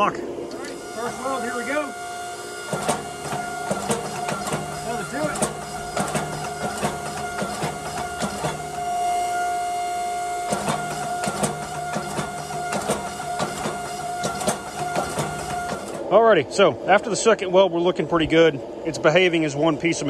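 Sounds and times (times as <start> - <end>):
forge burner and blower hum: 0.0 - 20.0.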